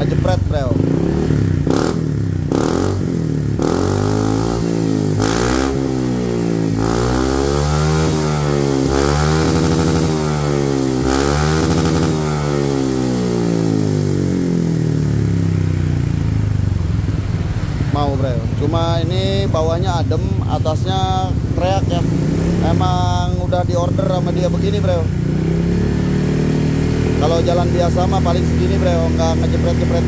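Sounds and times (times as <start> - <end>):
scooter engine revving: 0.0 - 30.0.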